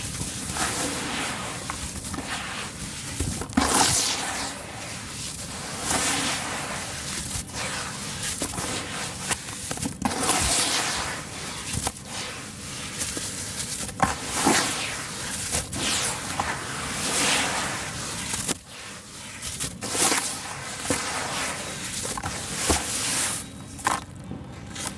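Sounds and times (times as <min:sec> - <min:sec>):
hands crumbling wet cement mix: 0:00.0 - 0:24.9.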